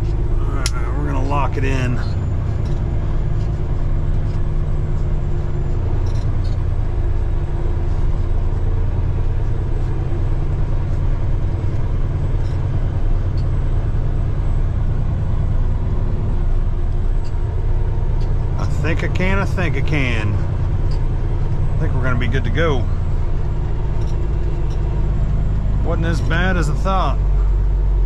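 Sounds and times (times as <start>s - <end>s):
diesel truck engine droning: 0.0s - 28.0s.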